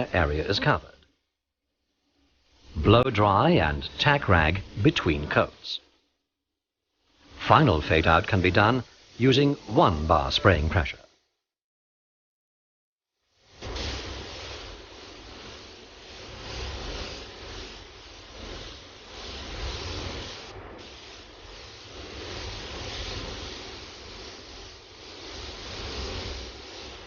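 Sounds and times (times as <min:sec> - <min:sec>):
spray gun hissing: 0:00.0 - 0:01.1, 0:01.8 - 0:06.0, 0:07.0 - 0:11.2, 0:13.3 - 0:27.0.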